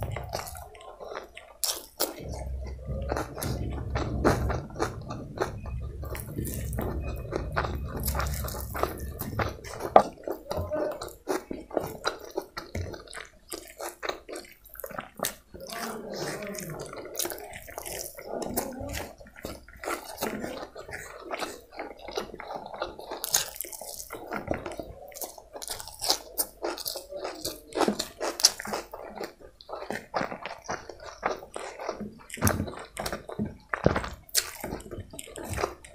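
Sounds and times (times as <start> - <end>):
wet chewing and mouth smacking: 0.0 - 35.9.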